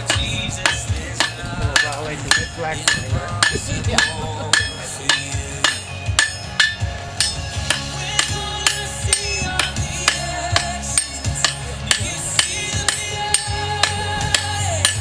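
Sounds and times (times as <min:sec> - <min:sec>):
hammer striking steel on anvil: 0:00.0 - 0:15.0
music: 0:00.0 - 0:15.0.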